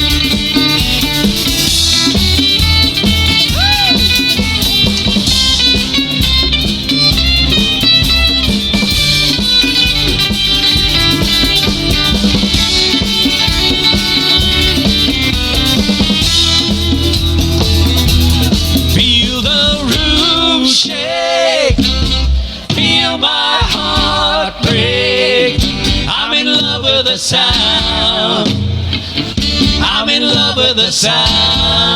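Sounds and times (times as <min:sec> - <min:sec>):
electric guitar: 0:00.0 - 0:31.9
rock band playing: 0:00.0 - 0:31.9.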